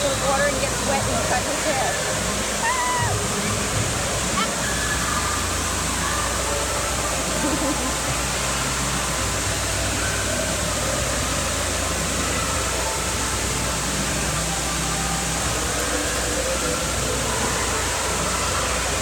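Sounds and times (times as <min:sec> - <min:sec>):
water washing over pool floor: 0:00.0 - 0:19.0.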